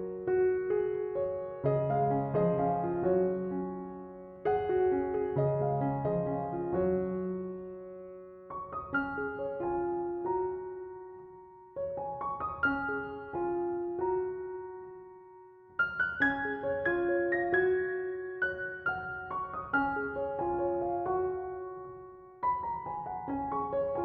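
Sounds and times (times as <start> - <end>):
soft piano chords: 0.0 - 24.0.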